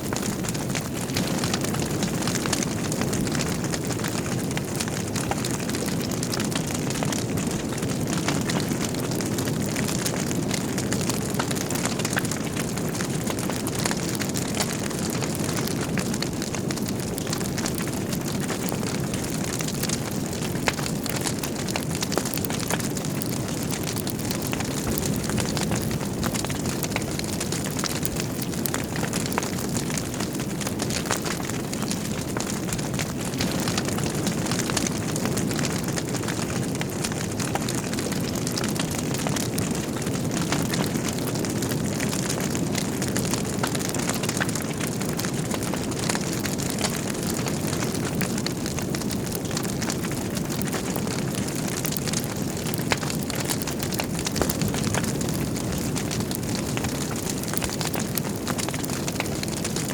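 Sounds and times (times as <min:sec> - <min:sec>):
fire crackling and popping: 0:00.0 - 0:59.9
low roar of flames: 0:00.0 - 0:59.9.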